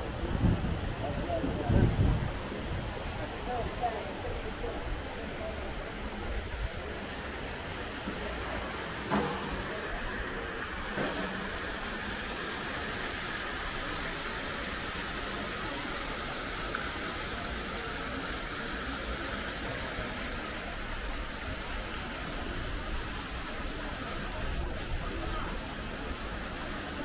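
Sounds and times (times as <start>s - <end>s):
city street rushing noise: 0.0s - 27.0s.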